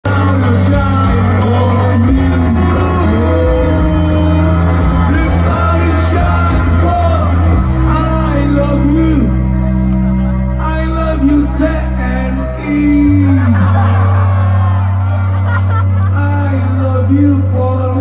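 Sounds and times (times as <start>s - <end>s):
person singing: 0.0s - 9.3s, 10.6s - 18.0s
live band music: 0.1s - 17.0s
heavy bass notes: 0.1s - 18.0s.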